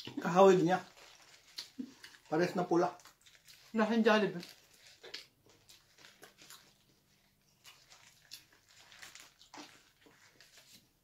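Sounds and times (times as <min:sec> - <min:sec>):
faint chewing and mouth sounds: 0:00.0 - 0:11.0.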